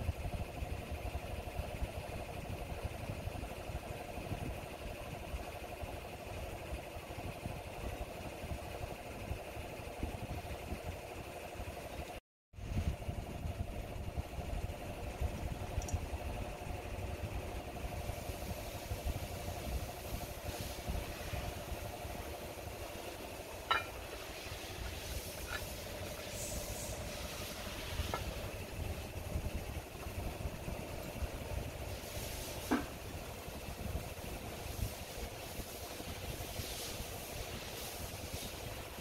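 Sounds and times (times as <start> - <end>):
engine running with pulsing hum: 0.0 - 39.0.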